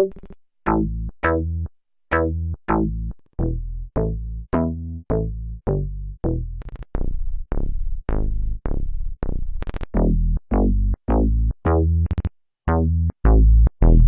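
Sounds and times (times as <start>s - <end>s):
synth bass notes: 0.0s - 14.0s.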